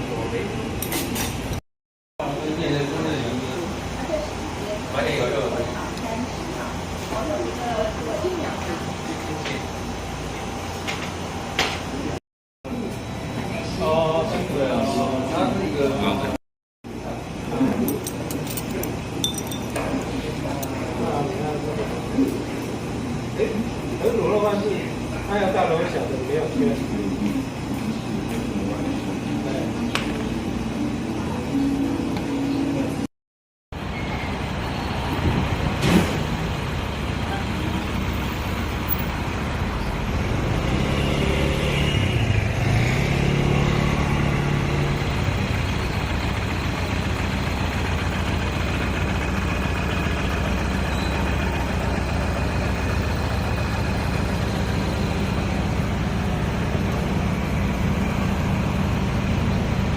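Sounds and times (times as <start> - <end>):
street traffic noise: 2.2 - 16.3, 16.9 - 33.1, 33.8 - 59.9.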